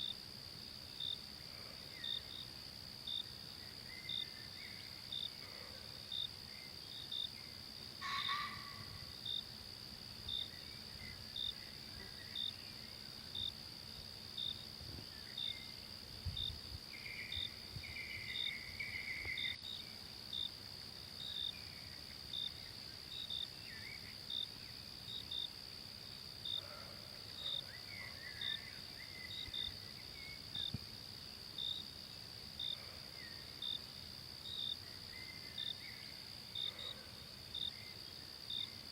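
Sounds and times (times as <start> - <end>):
cricket chirping: 0.0 - 38.9
insects droning: 0.0 - 38.9.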